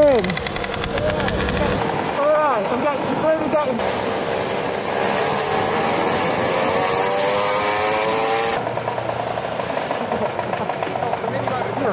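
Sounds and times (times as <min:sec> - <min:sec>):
mini motorbike engine revving: 0:00.0 - 0:11.8.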